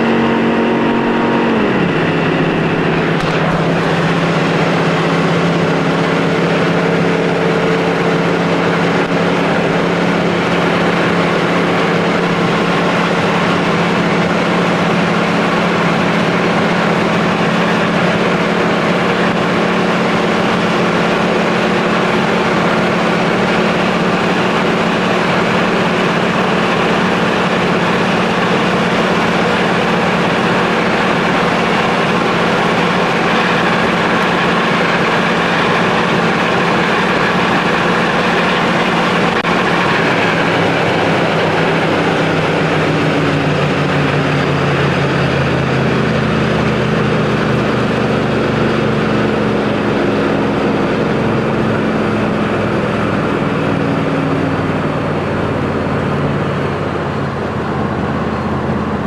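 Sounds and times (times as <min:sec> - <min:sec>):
car engine drone at high rpm: 0:00.0 - 0:59.0
wind and road noise: 0:00.0 - 0:59.0.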